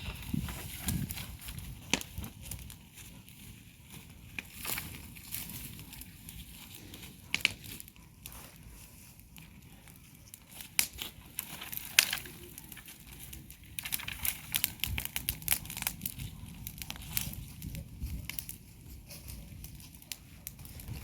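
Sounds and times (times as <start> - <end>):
dry material crackling and rustling: 0.0 - 21.0.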